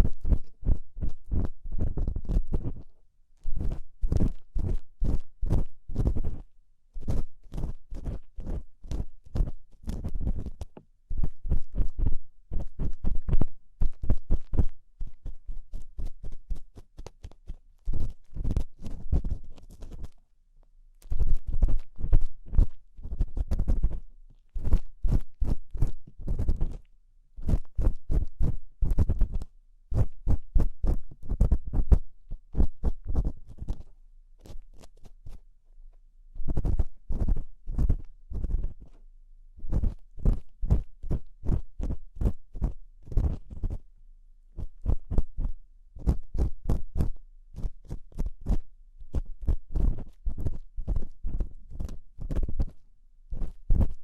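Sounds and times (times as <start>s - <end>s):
ear-cleaning tool scraping microphone: 0.0s - 20.2s, 21.0s - 35.4s, 36.4s - 39.0s, 39.6s - 43.8s, 44.6s - 52.8s.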